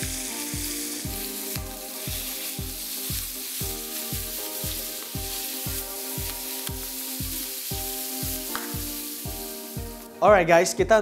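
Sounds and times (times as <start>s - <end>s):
chicken sizzling in oil: 0.0s - 10.2s
background music with steady beat: 0.0s - 11.0s.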